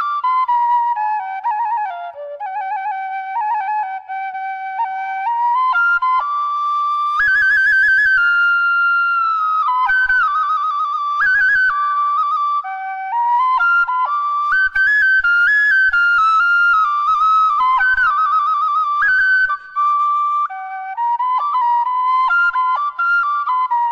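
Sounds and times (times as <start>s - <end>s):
bamboo flute melody: 0.0s - 23.9s.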